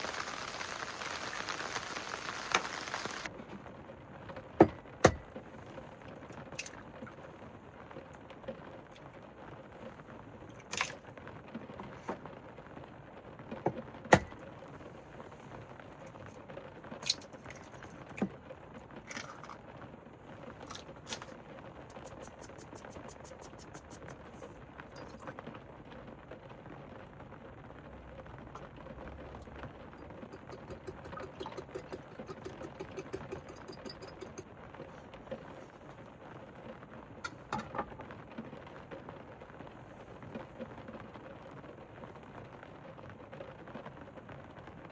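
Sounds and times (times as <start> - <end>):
rain pattering on a van roof: 0.0 - 44.9.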